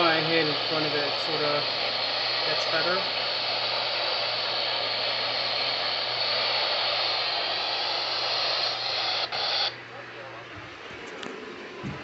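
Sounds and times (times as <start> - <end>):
radio static hiss: 0.0 - 10.5.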